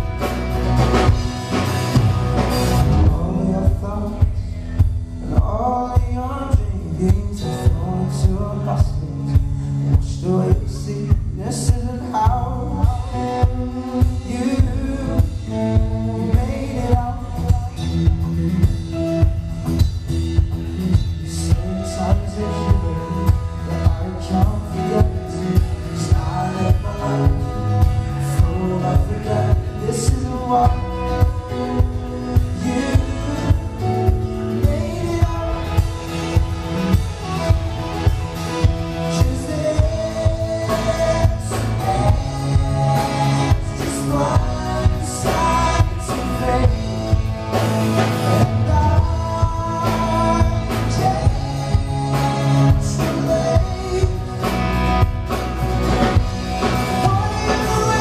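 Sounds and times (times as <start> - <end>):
drums steady beat: 0.0 - 58.0
strummed acoustic guitar: 0.0 - 58.0.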